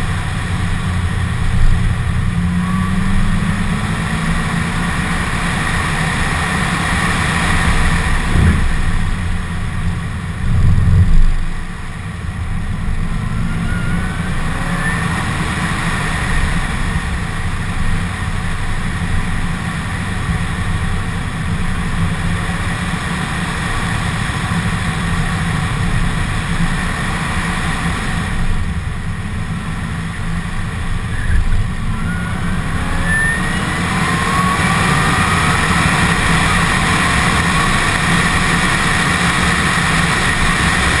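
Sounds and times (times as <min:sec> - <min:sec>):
car engine running hard: 0:00.0 - 0:41.0
supercharger whine: 0:00.0 - 0:41.0.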